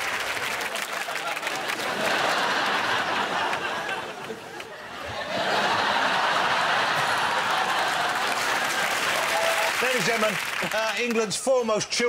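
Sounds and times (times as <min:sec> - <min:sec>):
studio audience laughing: 0:00.6 - 0:10.8.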